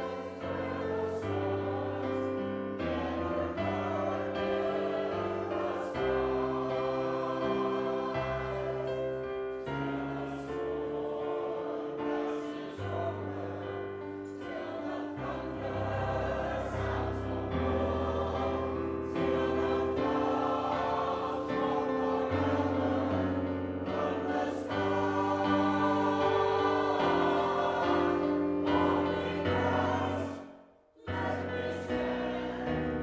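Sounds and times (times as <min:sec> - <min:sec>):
church choir singing: 0:00.0 - 0:33.0.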